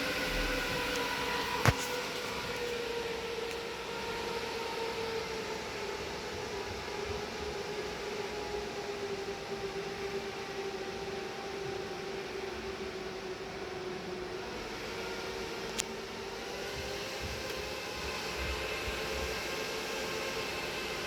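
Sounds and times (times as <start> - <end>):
server cooling fans whining: 0.0 - 21.0.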